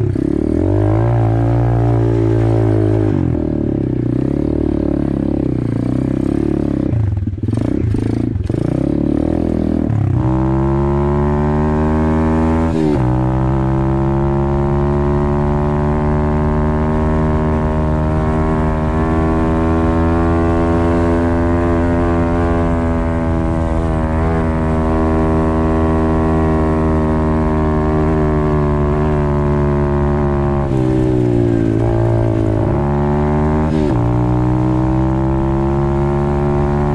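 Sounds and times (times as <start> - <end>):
motorbike engine at high revs: 0.0 - 36.9.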